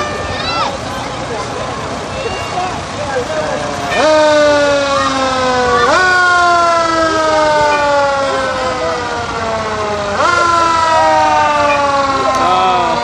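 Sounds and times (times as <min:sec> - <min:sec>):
fire truck siren wailing: 0:00.0 - 0:13.0.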